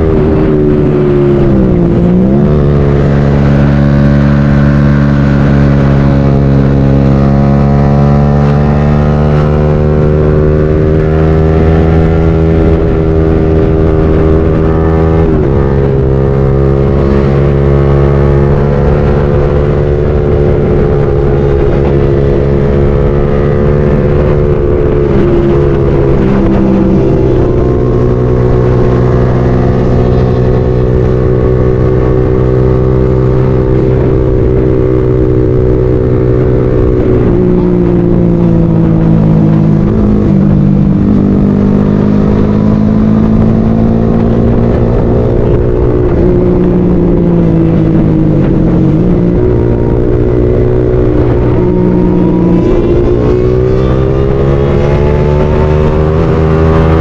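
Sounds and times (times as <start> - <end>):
motorcycle engine while riding: 0.0 - 57.0.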